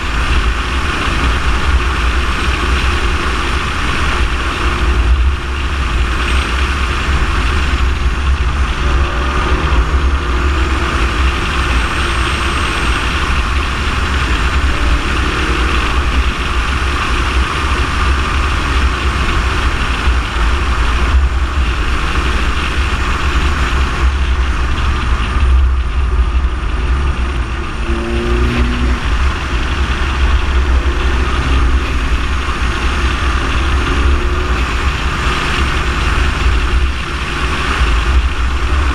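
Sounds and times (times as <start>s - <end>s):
faint car engine: 0.0s - 38.9s.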